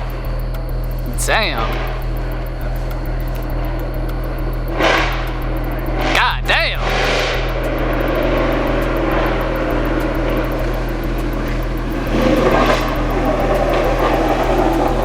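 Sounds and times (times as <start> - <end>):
loud car engine running: 0.0 - 15.0.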